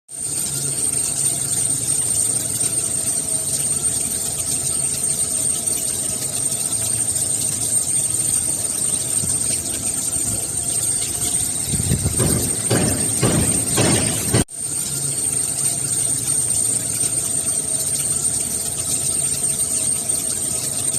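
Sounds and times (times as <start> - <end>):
machine high-pitched whine: 0.1 - 20.9.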